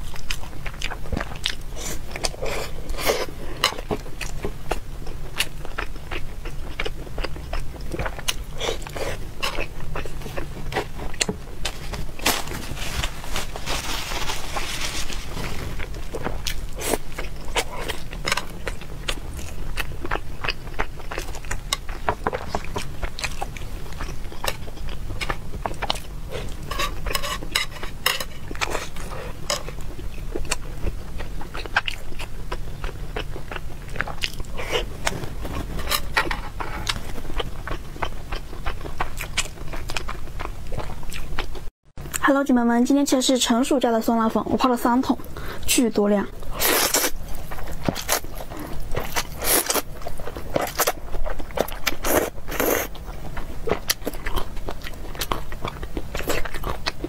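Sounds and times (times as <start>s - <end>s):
person chewing and mouth sounds: 0.0s - 12.6s, 15.3s - 42.2s, 46.3s - 57.0s.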